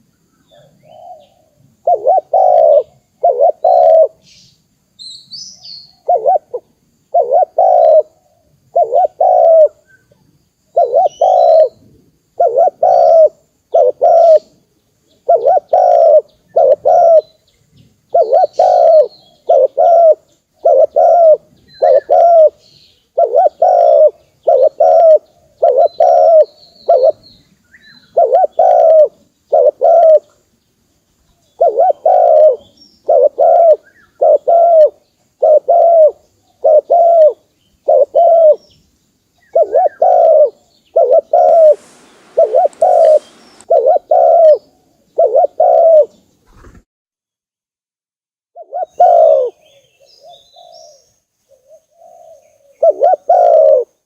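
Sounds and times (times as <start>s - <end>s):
dove cooing: 0.5s - 4.2s, 5.9s - 9.8s, 10.7s - 14.6s, 15.2s - 17.4s, 18.1s - 22.6s, 23.2s - 27.2s, 28.0s - 30.4s, 31.6s - 38.6s, 39.4s - 46.7s, 48.6s - 54.0s.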